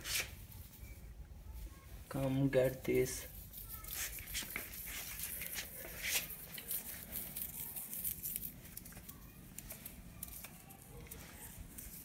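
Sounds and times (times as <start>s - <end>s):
tinsel rustling on stone floor: 0.0s - 12.0s.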